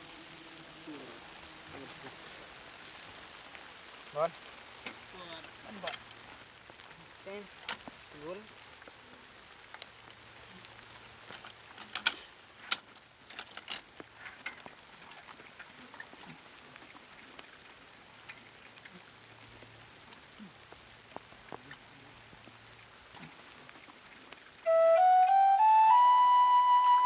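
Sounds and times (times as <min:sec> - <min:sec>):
light rain hiss: 0:00.0 - 0:27.0
raindrops dripping on a surface: 0:00.0 - 0:27.0.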